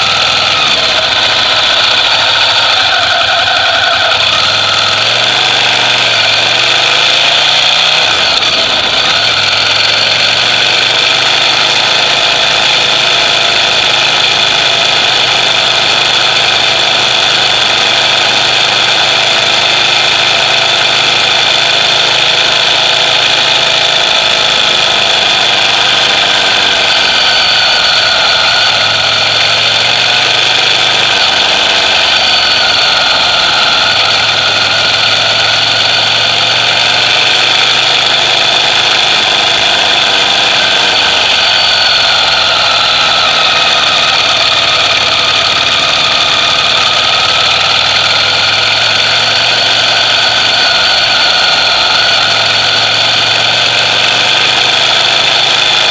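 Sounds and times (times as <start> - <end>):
motorcycle engine idling: 0.0 - 55.9.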